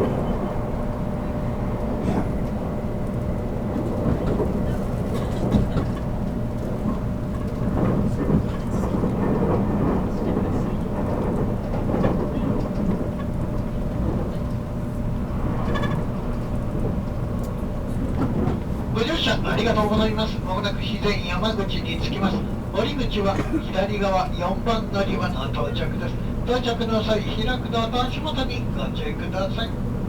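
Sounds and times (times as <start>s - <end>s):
train interior rumble: 0.0s - 30.0s.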